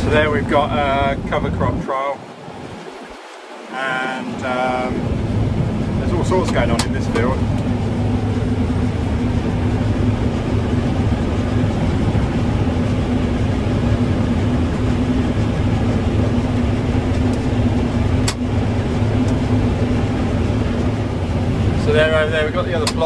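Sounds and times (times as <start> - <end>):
combine harvester droning: 0.0 - 23.0.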